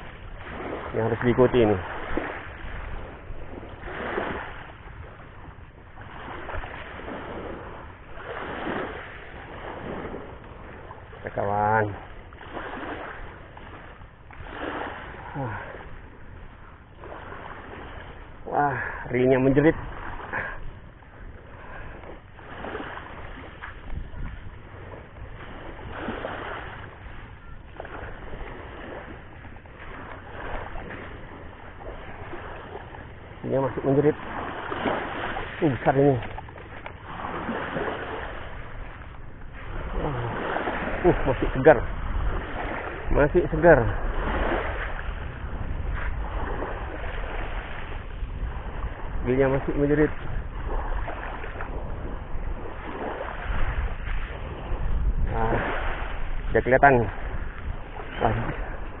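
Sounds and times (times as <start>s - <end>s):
waves washing on beach: 0.0s - 59.0s
wind buffeting microphone: 0.0s - 59.0s.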